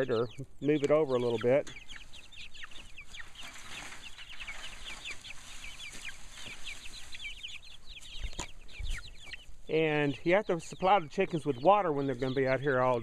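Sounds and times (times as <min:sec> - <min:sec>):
chickens chirping: 0:00.0 - 0:13.0.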